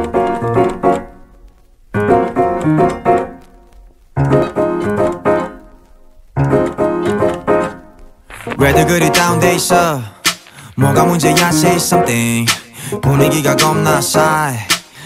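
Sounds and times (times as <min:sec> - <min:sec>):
keyboard chords: 0:00.0 - 0:15.0.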